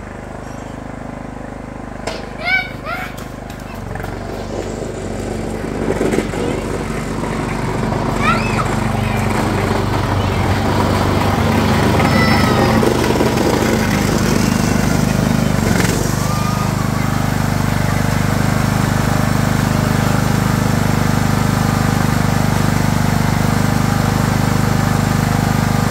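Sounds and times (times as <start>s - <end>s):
lawn tractor engine running: 0.0s - 25.9s.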